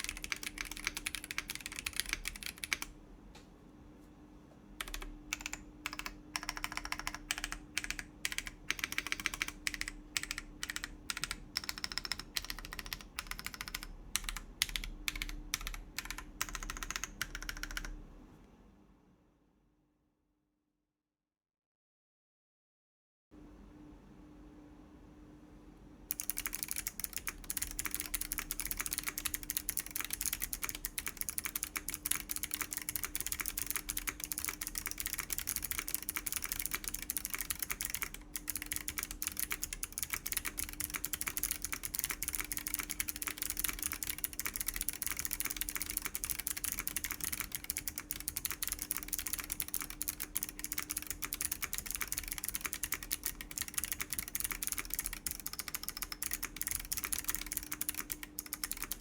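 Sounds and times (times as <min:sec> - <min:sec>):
mechanical keyboard typing: 0:00.0 - 0:03.0, 0:04.8 - 0:18.0, 0:26.1 - 0:59.0.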